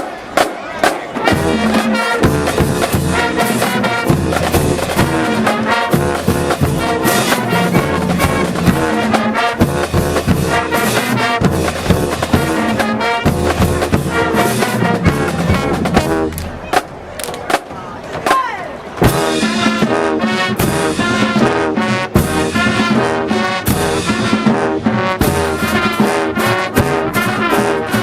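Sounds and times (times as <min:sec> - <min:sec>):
marching band playing: 0:00.0 - 0:28.0.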